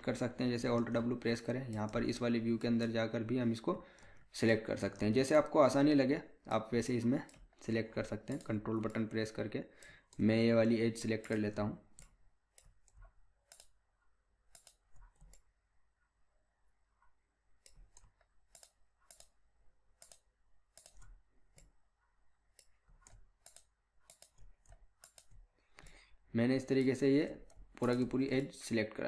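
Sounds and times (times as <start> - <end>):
computer mouse clicking: 0.6 - 3.2, 3.9 - 5.6, 6.8 - 15.6, 17.0 - 28.5.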